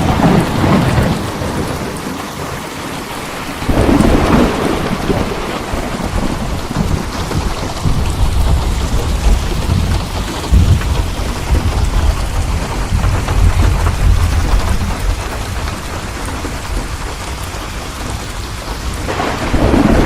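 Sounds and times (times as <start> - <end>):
steady rain: 0.0 - 20.0
thunder clap and rumble: 0.0 - 20.0.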